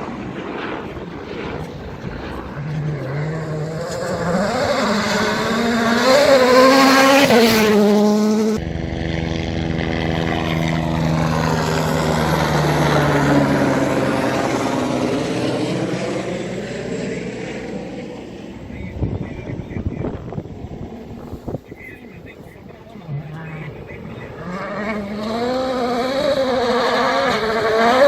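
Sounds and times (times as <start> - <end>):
rally car engine revving: 0.8 - 28.0.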